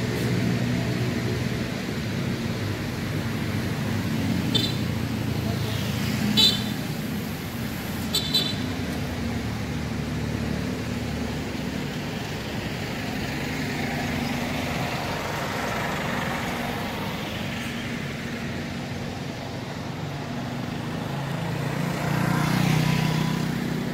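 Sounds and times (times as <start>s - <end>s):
diesel bus engines running: 0.0s - 23.9s.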